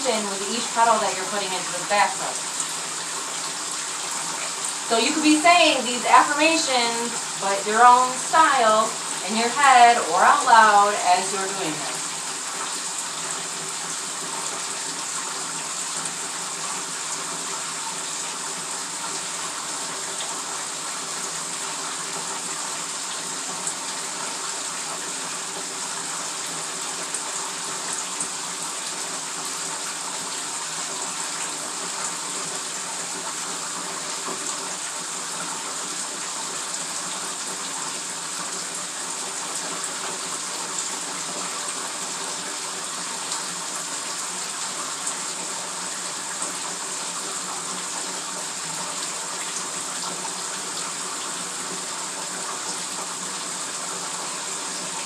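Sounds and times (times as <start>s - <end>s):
water pouring into bathtub: 0.0s - 55.0s.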